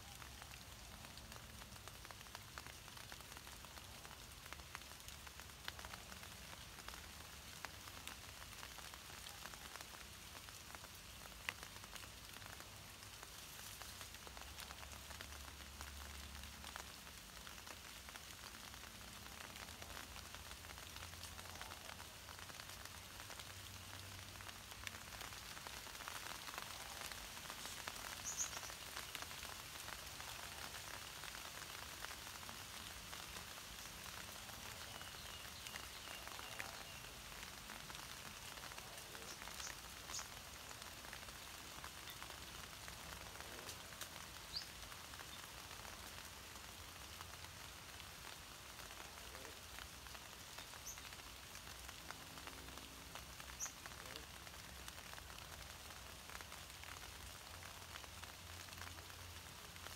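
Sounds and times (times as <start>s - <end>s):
light rain hiss: 0.0s - 59.9s.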